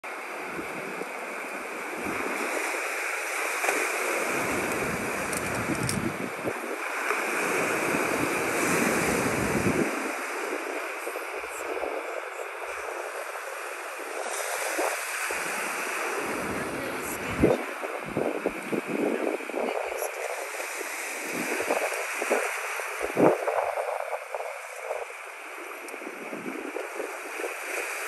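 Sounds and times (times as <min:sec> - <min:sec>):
waves washing onto pebbles: 0:00.1 - 0:28.0
wind rumbling on microphone: 0:00.1 - 0:28.0.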